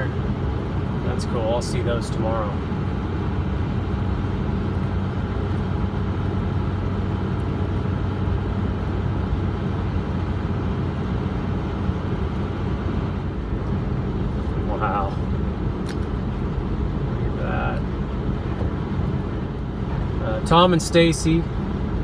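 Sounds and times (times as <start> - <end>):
road noise: 0.0 - 22.0
truck engine hum: 0.0 - 22.0.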